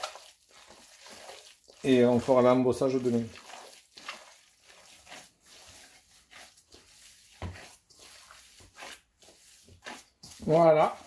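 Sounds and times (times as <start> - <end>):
wet squelches of kneading: 0.0 - 11.0.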